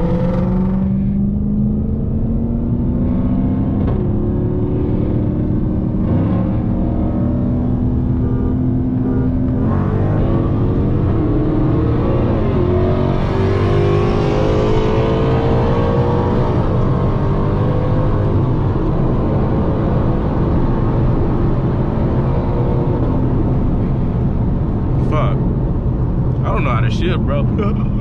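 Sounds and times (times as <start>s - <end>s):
car engine revving at full throttle: 0.0s - 28.0s.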